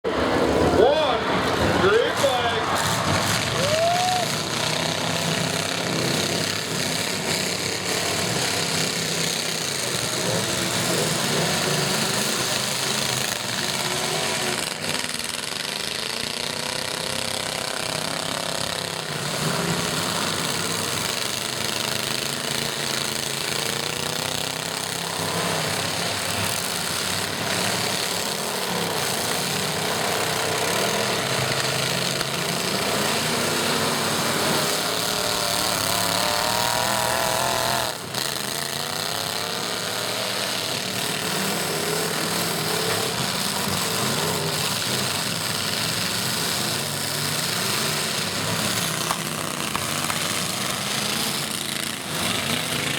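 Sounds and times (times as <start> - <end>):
truck engines revving: 0.0 - 52.9.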